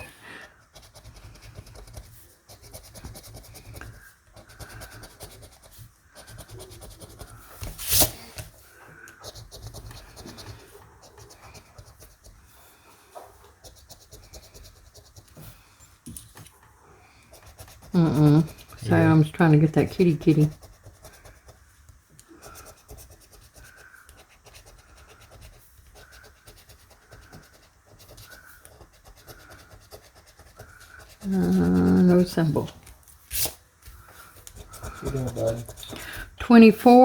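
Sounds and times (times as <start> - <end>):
scratching lottery ticket: 0.0 - 15.7, 17.0 - 37.0.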